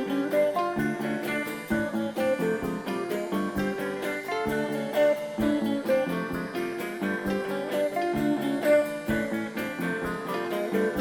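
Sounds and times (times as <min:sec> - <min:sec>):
guitar strummed and plucked: 0:00.0 - 0:11.0.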